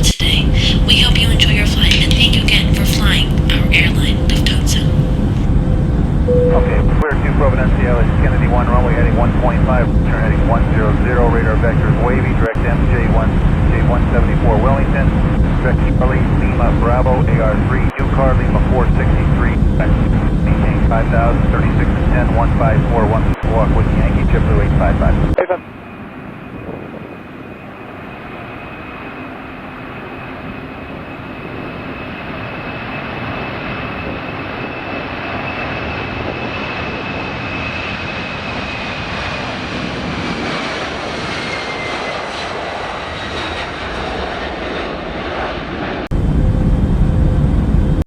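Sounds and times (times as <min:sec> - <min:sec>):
deep jet engine rumble: 0:00.0 - 0:48.0
jet engines whining: 0:00.0 - 0:48.0.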